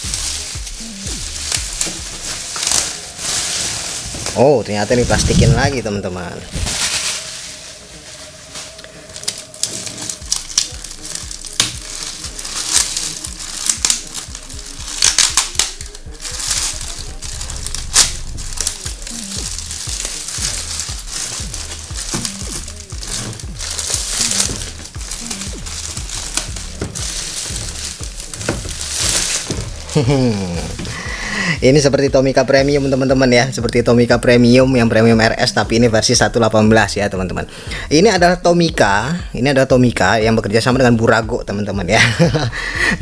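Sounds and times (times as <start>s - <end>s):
plastic film crinkling: 0.0s - 38.7s
electronic music with steady beat: 0.0s - 43.0s.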